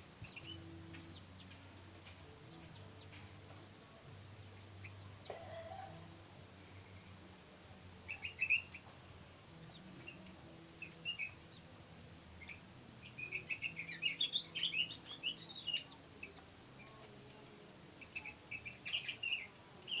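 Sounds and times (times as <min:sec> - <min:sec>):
bulbuls chirping: 0:00.0 - 0:07.2, 0:07.8 - 0:20.0.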